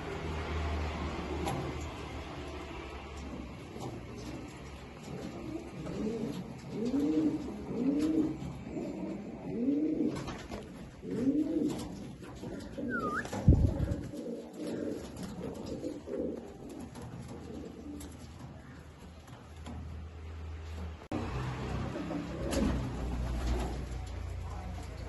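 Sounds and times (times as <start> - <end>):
pigeons cooing: 0.8 - 20.2, 21.8 - 24.3.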